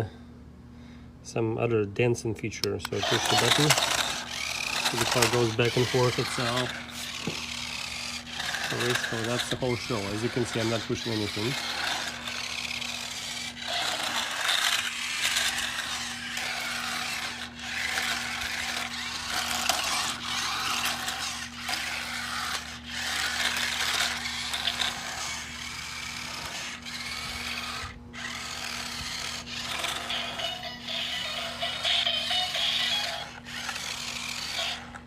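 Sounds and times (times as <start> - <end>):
toy gear motors whirring: 2.6 - 35.0
tinny toy music: 2.8 - 35.0.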